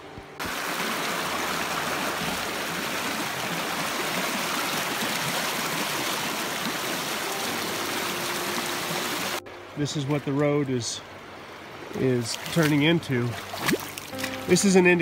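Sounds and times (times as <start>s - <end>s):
floodwater rushing: 0.4s - 15.0s.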